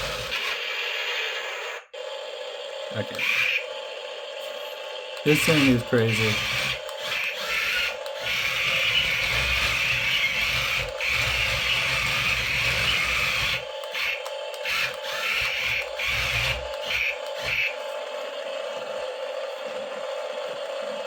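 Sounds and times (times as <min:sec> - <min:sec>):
toy tank motors whirring: 0:00.0 - 0:21.0.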